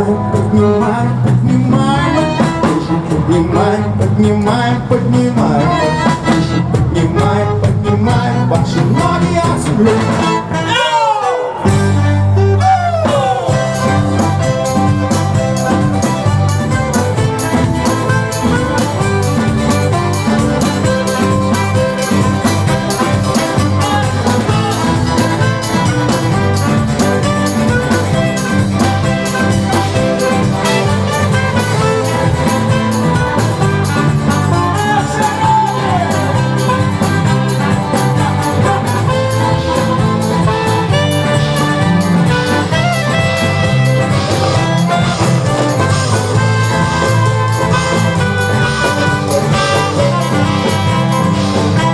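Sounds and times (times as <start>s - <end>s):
band music with steady beat: 0.0s - 51.9s.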